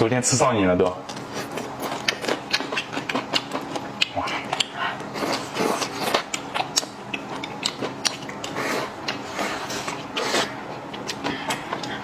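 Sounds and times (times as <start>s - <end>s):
chewing and mouth smacks: 1.0s - 12.0s.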